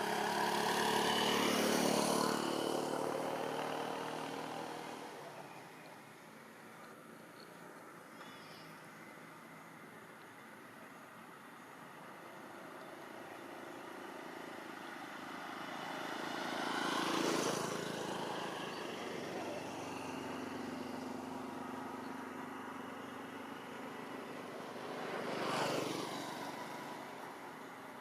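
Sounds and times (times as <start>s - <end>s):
vehicles passing by: 0.0s - 28.0s.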